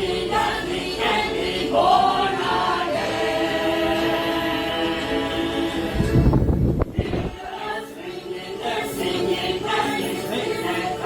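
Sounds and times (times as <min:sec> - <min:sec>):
church choir singing: 0:00.0 - 0:11.0.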